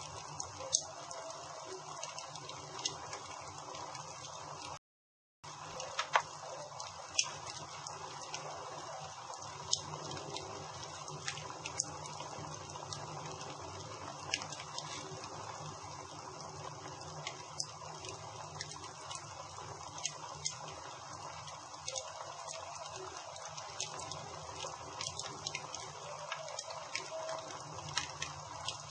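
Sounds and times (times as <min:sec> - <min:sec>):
campfire hissing: 0:00.0 - 0:04.8, 0:05.4 - 0:28.9
fire crackles and pops: 0:00.0 - 0:04.8, 0:05.5 - 0:28.9.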